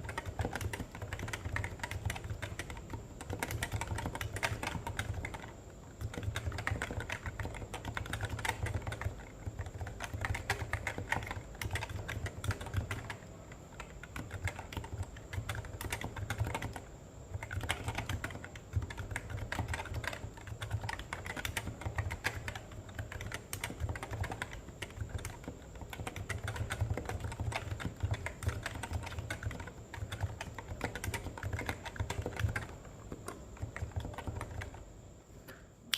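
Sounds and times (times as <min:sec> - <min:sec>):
fast typing on keyboard: 0:00.0 - 0:34.9.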